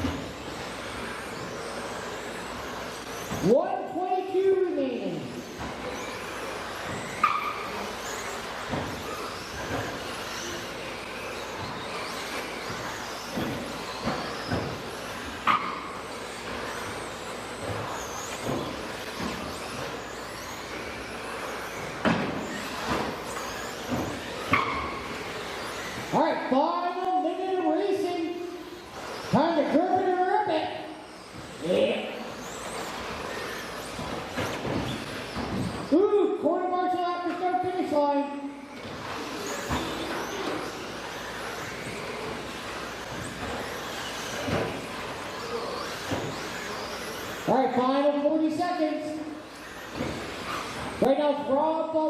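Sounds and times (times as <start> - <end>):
high electric motor whine: 0.0 - 36.4, 37.1 - 51.6.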